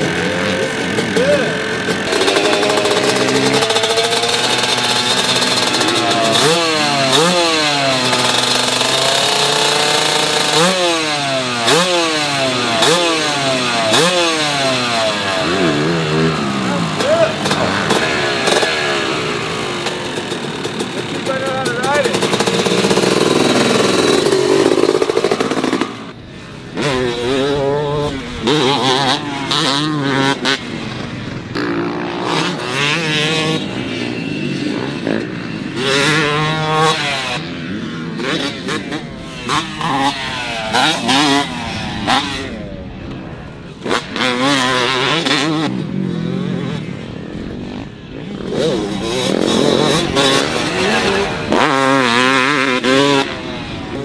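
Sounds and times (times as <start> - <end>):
dirt bike engine revving hard: 0.0 - 54.0.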